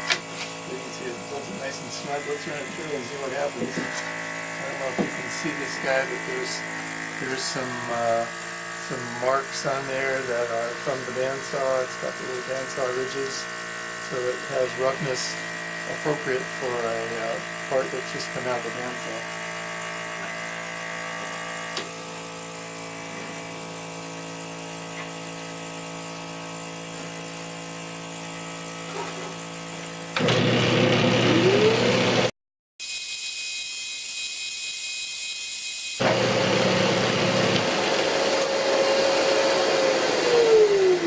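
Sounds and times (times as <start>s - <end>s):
drum sander motor whining: 0.0s - 23.8s, 29.1s - 32.3s, 32.9s - 41.0s
vacuum pump humming: 0.0s - 32.3s, 36.0s - 41.0s.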